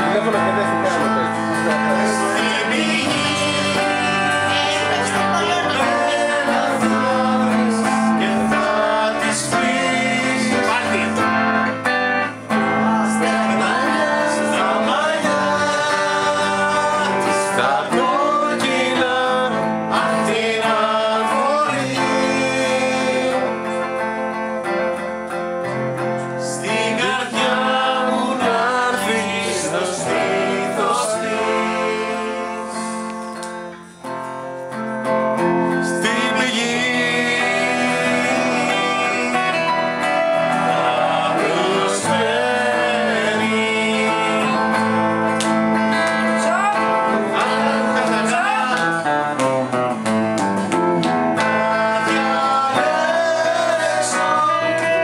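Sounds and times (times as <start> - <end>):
person singing: 0.0 - 25.1, 26.0 - 34.0, 35.6 - 49.7, 51.0 - 55.0
acoustic guitar: 0.0 - 55.0
electric guitar: 0.0 - 55.0
keyboard: 0.0 - 55.0.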